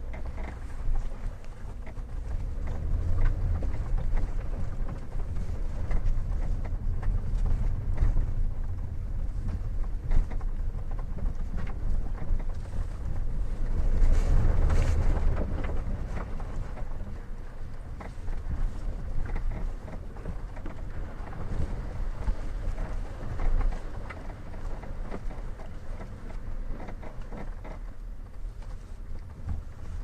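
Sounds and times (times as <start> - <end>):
car driving over uneven road: 0.0 - 30.0
knocks and creaks: 0.0 - 30.0.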